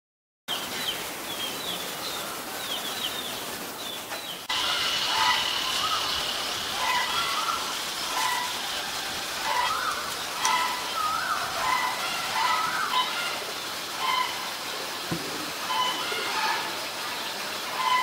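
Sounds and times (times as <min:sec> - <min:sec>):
small birds chirping: 0:00.5 - 0:18.0.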